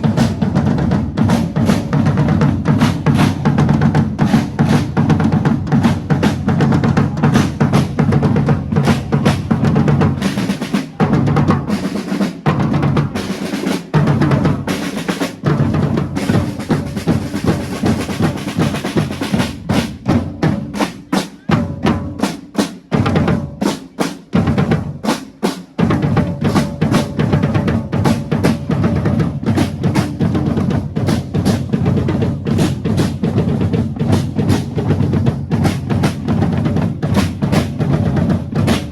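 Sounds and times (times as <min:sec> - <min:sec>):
snare drums beating: 0:00.0 - 0:38.9.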